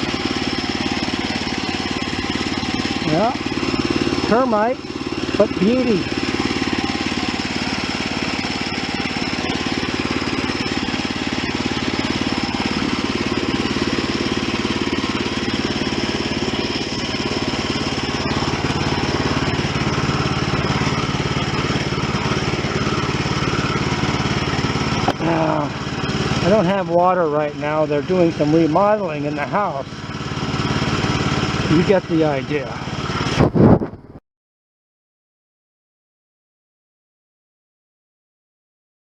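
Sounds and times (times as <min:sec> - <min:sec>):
bandsaw sawmill sawing log: 0:00.0 - 0:33.8.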